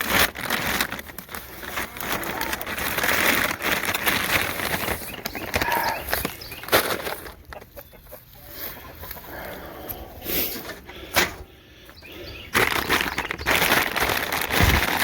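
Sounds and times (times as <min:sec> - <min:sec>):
hens clucking: 0:01.3 - 0:14.2.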